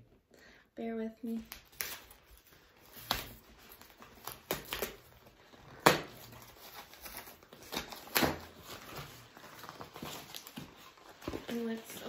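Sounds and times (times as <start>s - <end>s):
packaging crinkling and ripping: 1.4s - 12.0s.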